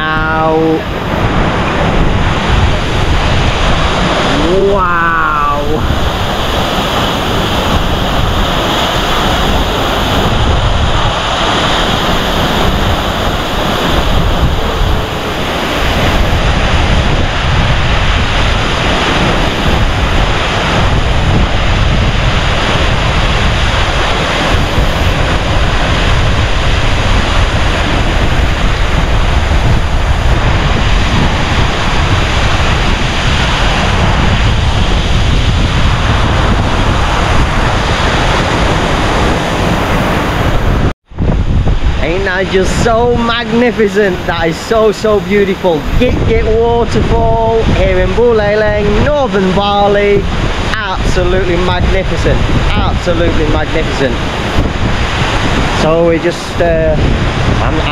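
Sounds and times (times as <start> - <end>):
waterfall roaring: 0.0 - 57.9
wind rumbling on microphone: 0.0 - 57.9.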